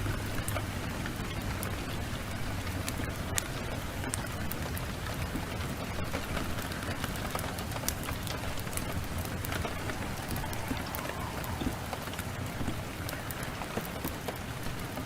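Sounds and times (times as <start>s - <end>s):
heavy rain: 0.0s - 15.0s
wood fire crackling: 0.0s - 15.0s.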